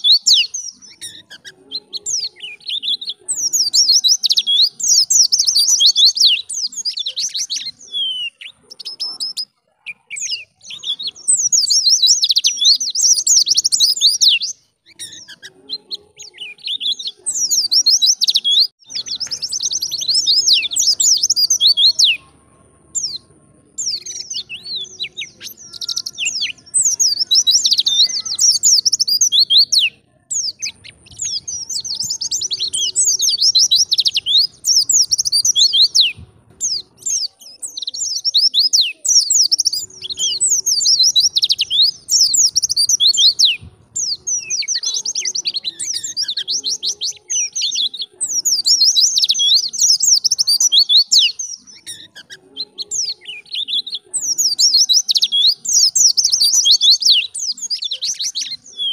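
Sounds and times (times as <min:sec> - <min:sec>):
bird twittering: 0:00.0 - 0:23.2, 0:23.8 - 0:58.9.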